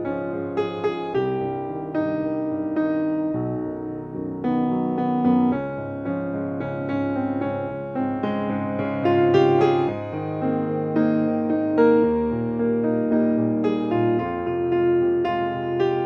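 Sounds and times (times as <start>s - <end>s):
slow solo piano melody: 0.0s - 16.0s.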